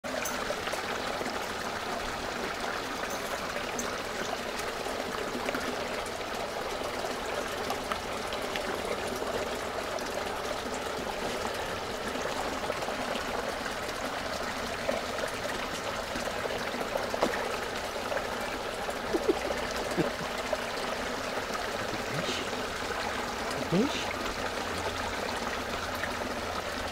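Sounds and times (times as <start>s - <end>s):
water trickling into pond: 0.0s - 26.9s.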